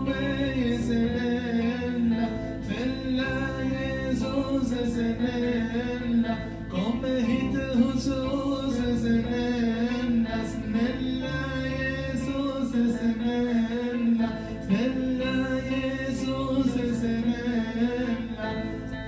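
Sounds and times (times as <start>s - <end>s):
electronic keyboard chords: 0.0s - 19.0s
man singing into a microphone: 0.0s - 19.0s.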